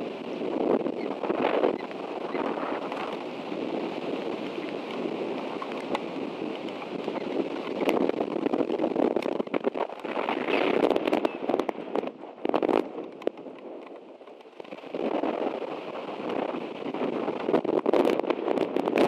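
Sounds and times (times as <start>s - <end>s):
rain ticking on microphone: 0.0s - 19.0s.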